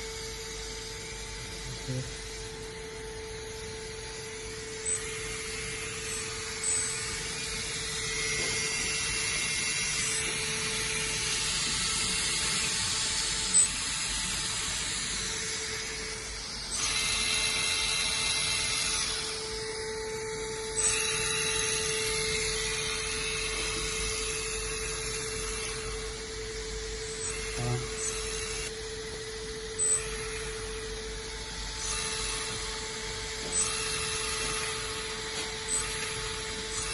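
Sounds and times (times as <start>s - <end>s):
electric motors whining: 0.0s - 36.9s.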